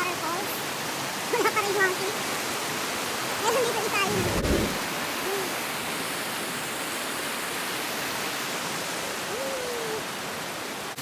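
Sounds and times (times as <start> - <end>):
mountain stream rushing: 0.0 - 11.0.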